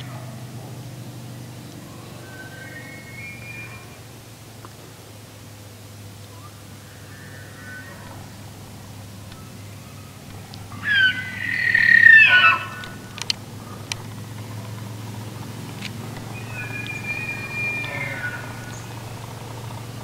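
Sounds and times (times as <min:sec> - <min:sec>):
elk bugling: 0:00.0 - 0:20.0
faint distant elk bugles: 0:00.0 - 0:20.0.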